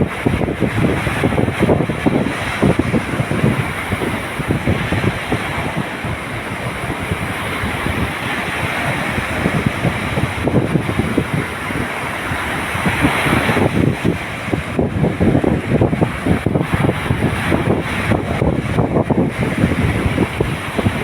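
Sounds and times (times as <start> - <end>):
ocean waves washing in: 0.0 - 21.0
wind buffeting microphone: 0.0 - 21.0.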